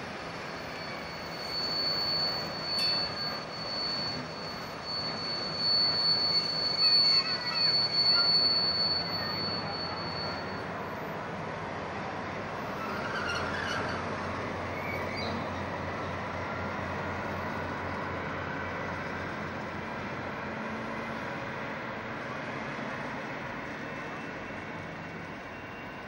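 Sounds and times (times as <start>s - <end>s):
freight train passing: 0.0s - 26.0s.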